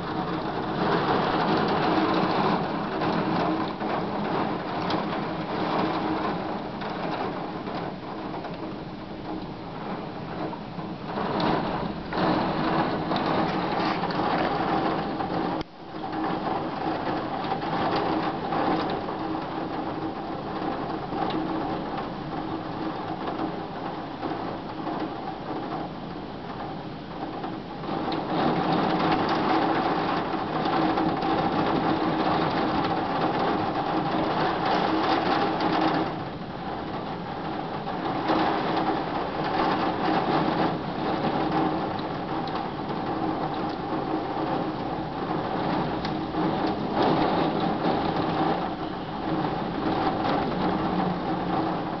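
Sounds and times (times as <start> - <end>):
rain clattering on hard surface: 0.0 - 52.0.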